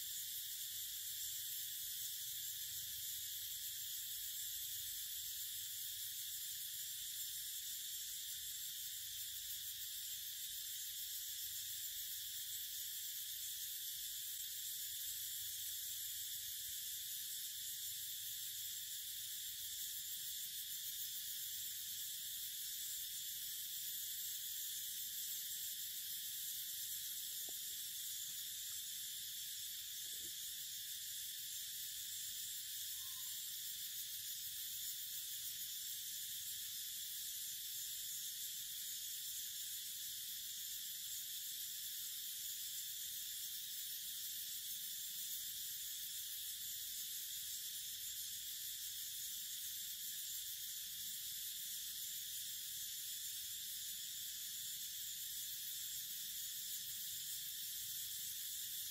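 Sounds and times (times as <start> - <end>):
insects buzzing: 0.0 - 58.9.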